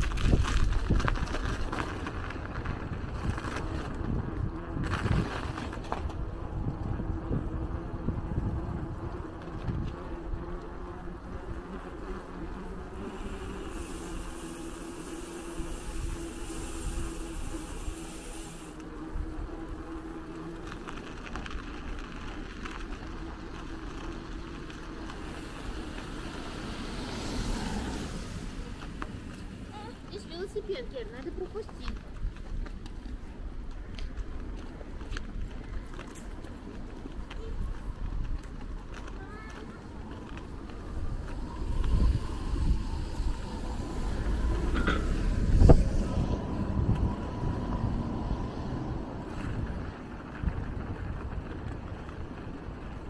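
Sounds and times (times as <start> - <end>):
wind rumble on microphone: 0.0 - 13.9, 15.4 - 53.0
street traffic: 0.0 - 53.0.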